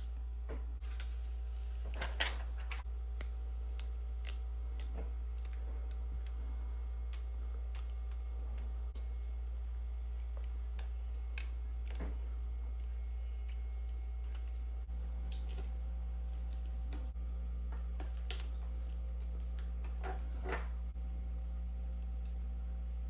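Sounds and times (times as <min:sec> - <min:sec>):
low hum: 0:00.0 - 0:23.0
small tools clicking and tapping: 0:01.9 - 0:20.7.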